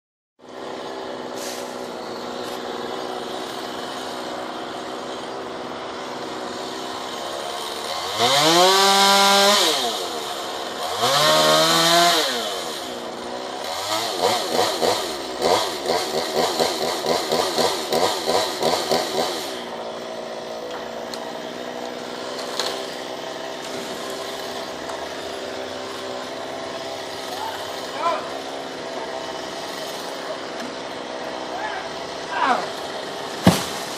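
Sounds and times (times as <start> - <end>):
chainsaw engine idling and revving: 0.4 - 33.9.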